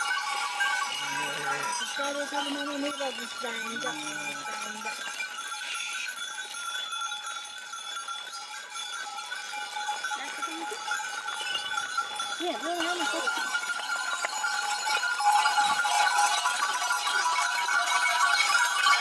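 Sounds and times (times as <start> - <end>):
livestock bells jingling: 0.0 - 19.0.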